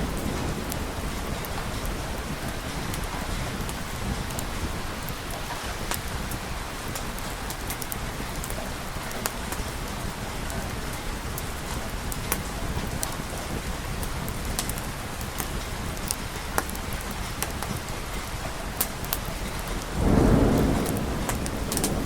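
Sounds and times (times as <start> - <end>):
sharp ticks and pops of rain: 0.0 - 22.0
steady rain falling: 0.0 - 22.0.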